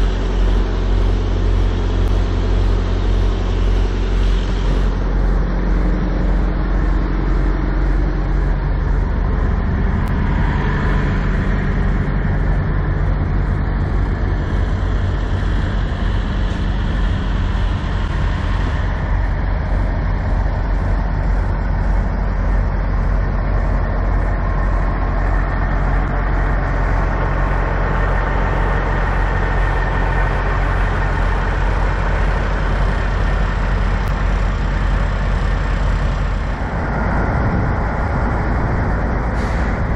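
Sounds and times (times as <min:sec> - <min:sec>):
diesel truck engines idling: 0:00.0 - 0:39.9.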